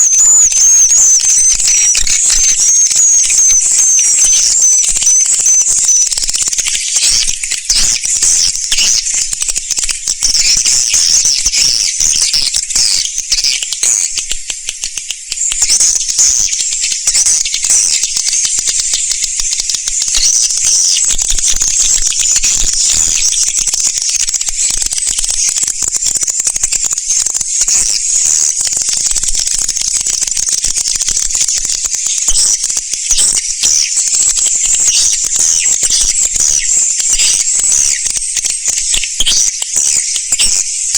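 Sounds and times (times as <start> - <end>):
swiftlets twittering and clicking: 0.0 - 40.9.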